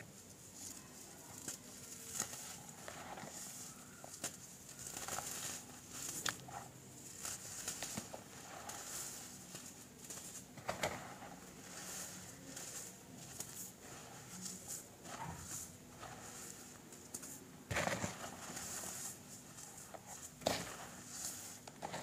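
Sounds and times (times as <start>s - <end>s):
powder crunching and rustling: 0.0s - 22.0s.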